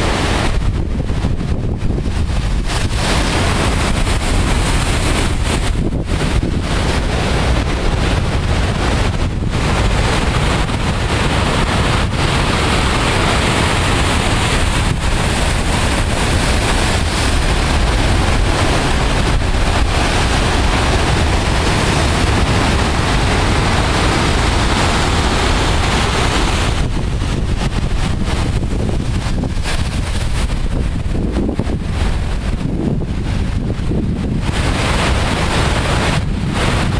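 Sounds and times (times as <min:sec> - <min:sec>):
heavy surf breaking on rocks: 0:00.0 - 0:36.9
wind buffeting microphone: 0:00.0 - 0:36.9.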